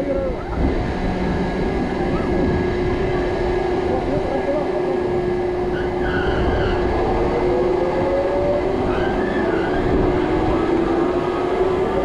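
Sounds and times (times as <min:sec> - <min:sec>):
high mechanical whine: 0:00.0 - 0:12.0
lift machinery humming: 0:00.0 - 0:12.0.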